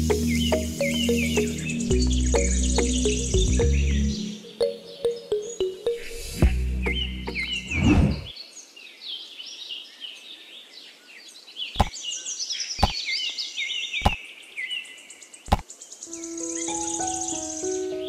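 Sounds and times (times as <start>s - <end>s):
songbirds chirping and twittering: 0.0s - 18.0s.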